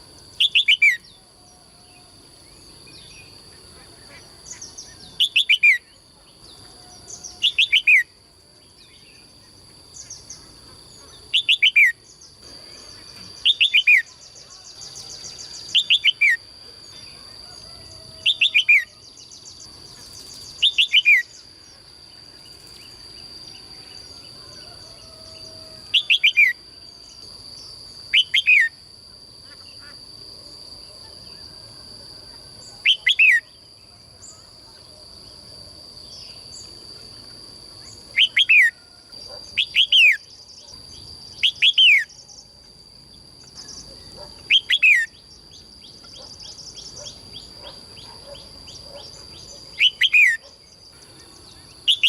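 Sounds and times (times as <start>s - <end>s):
songbird calling: 0.0s - 21.8s, 22.4s - 28.8s, 32.2s - 35.0s, 36.1s - 42.5s, 43.4s - 52.0s.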